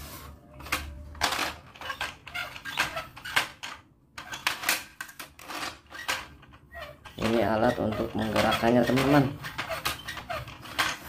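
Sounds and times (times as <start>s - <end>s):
plastic toy parts clicking and rattling: 0.6s - 11.0s.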